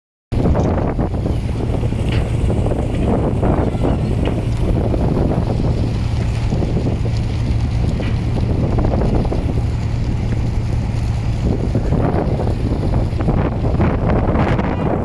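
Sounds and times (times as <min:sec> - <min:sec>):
wind buffeting microphone: 0:00.3 - 0:15.0
boat engine drone: 0:00.4 - 0:15.0.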